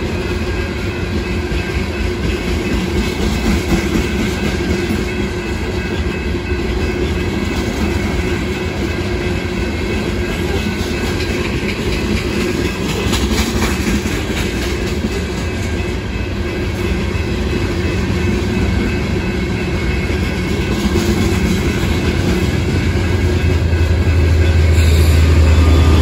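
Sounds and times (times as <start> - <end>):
diesel locomotive drone: 0.0 - 26.0
freight train cars rolling past: 0.0 - 26.0.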